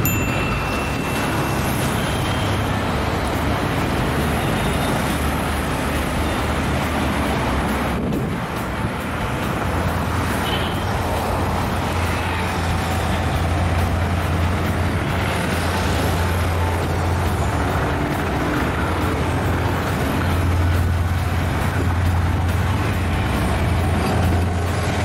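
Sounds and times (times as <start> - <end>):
diesel locomotive engine drone: 0.0 - 25.0.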